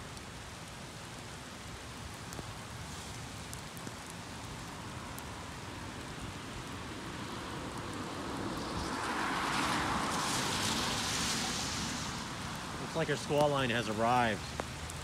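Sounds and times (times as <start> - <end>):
car tyres hissing on wet road: 0.0 - 15.0
rain on wet pavement: 0.0 - 15.0.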